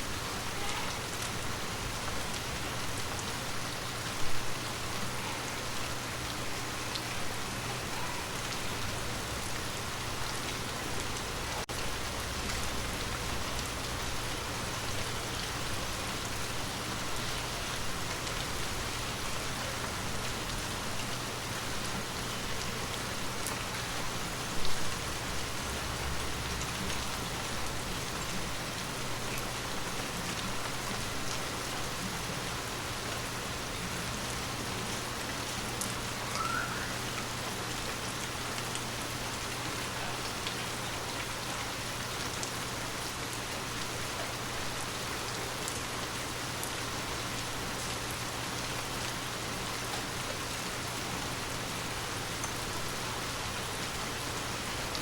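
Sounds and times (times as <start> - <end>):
hiss of falling water: 0.0 - 55.0.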